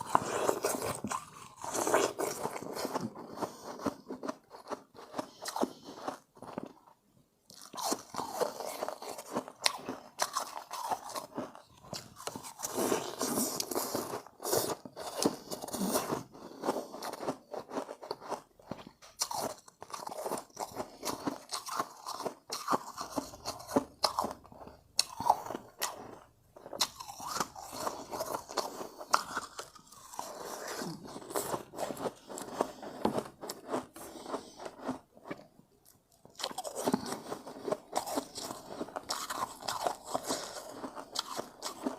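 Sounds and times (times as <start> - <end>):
shave ice crunching when chewed: 0.0 - 6.8, 7.5 - 41.9.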